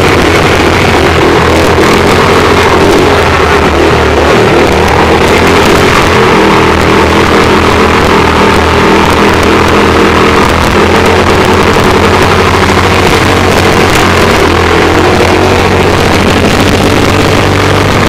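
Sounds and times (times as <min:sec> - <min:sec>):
pump engine running: 0:00.0 - 0:18.0.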